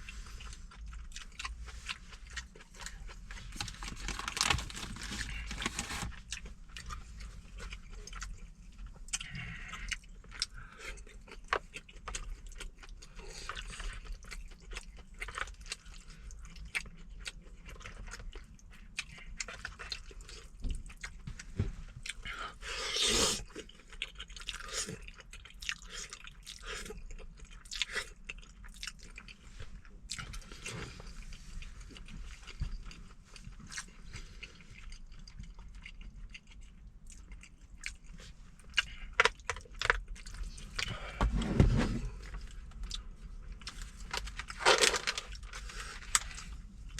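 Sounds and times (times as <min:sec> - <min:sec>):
person chewing with wet smacks: 0:00.0 - 0:04.0, 0:06.3 - 0:22.3, 0:23.4 - 0:41.1, 0:42.3 - 0:46.9.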